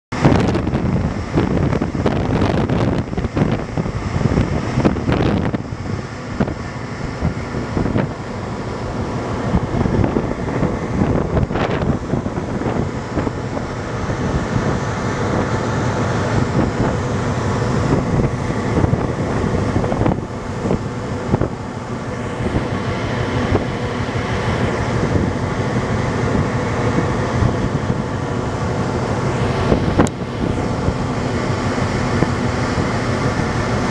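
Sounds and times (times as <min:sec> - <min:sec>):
ship engines rumbling: 0:00.1 - 0:33.9
wind buffeting microphone: 0:00.1 - 0:33.9.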